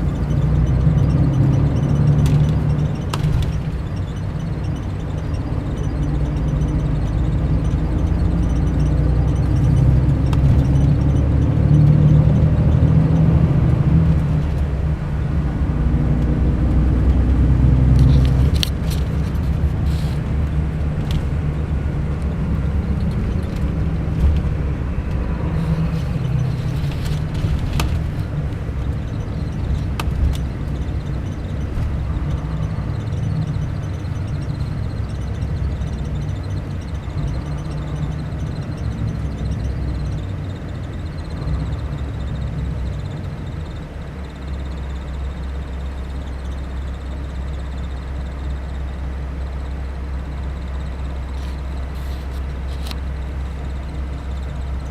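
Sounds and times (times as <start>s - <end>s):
diesel bus engine running: 0.0s - 54.9s.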